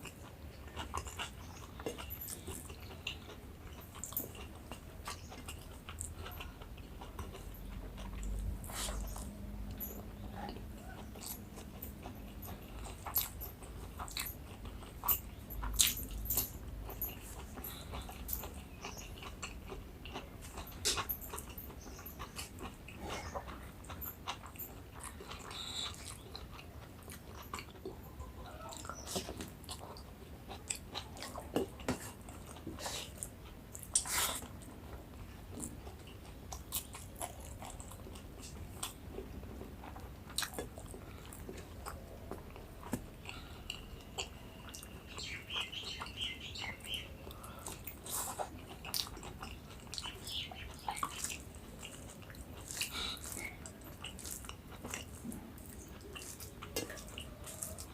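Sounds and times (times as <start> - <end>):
person chewing food: 0.0 - 57.9.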